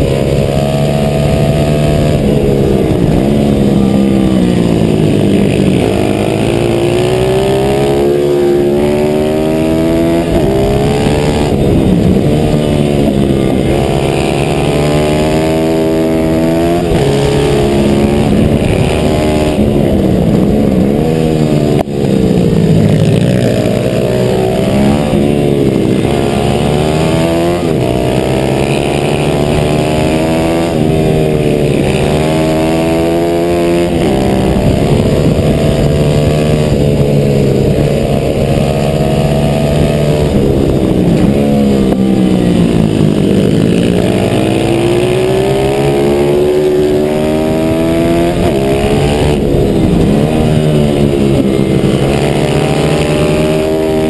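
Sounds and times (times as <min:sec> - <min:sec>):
motorbike engine revving: 0:00.0 - 0:54.0
wind rushing: 0:00.5 - 0:54.0.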